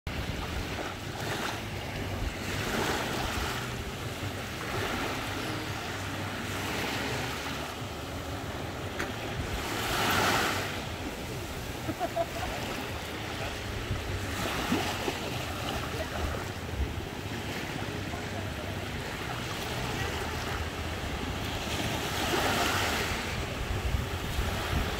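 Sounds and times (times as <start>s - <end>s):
small waves lapping on sand: 0.1s - 24.9s
wind rumble on microphone: 0.1s - 24.9s.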